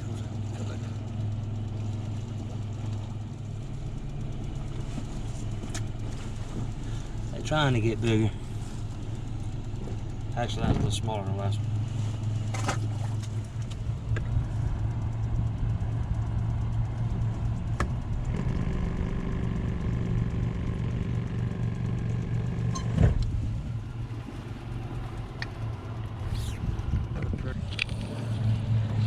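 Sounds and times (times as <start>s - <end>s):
boat motor humming: 0.0s - 29.0s.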